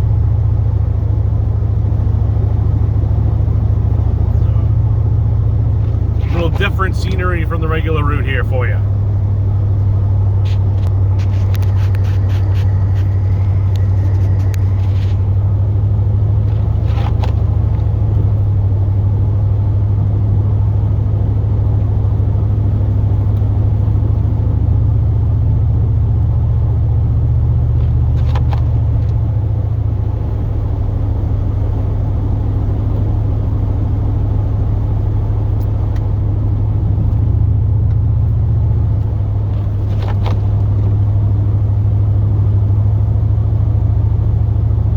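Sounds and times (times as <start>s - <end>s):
truck engine and road drone: 0.0s - 44.9s.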